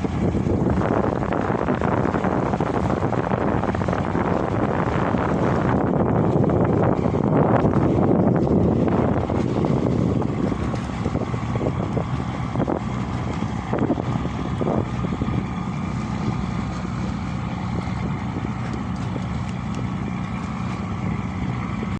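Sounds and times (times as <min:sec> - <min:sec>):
ferry engine droning: 0:00.0 - 0:21.9
wind noise on microphone: 0:00.0 - 0:21.9.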